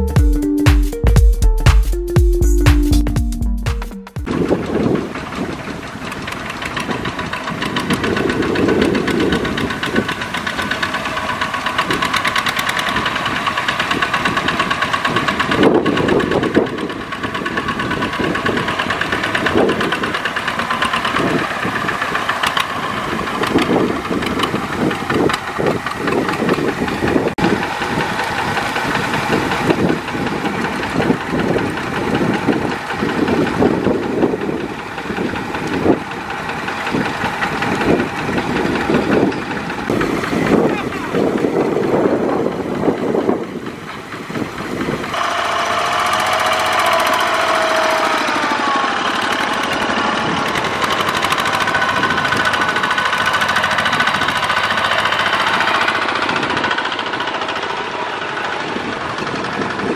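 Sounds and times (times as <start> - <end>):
diesel tractor engines knocking: 0.0 - 59.9.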